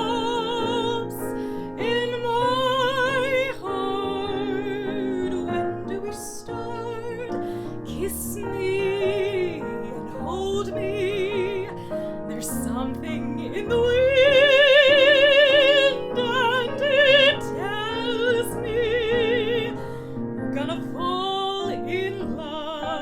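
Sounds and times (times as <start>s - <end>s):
piano accompaniment: 0.0s - 23.0s
woman singing with vibrato: 0.0s - 23.0s.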